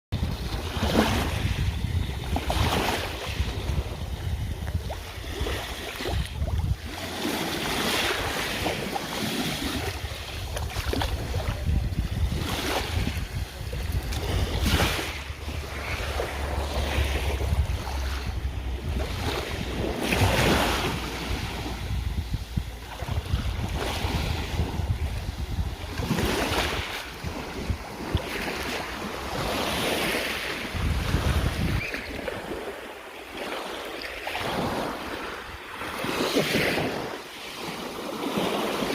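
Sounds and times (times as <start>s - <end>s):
sea waves breaking: 0.2s - 38.9s
wind rumbling on microphone: 0.2s - 38.9s.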